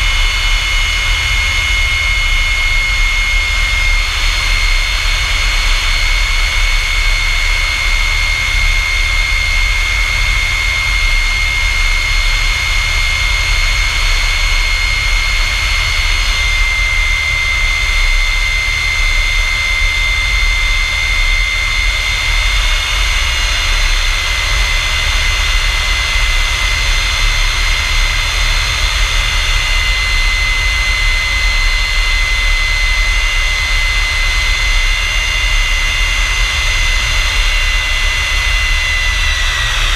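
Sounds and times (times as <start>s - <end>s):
jet engine rush and whine: 0.0s - 39.9s.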